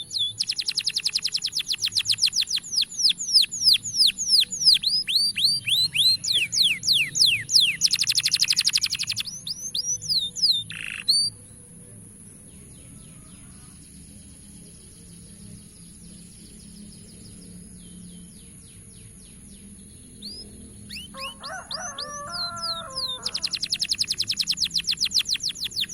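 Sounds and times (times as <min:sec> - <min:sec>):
canary song: 0:00.0 - 0:25.9.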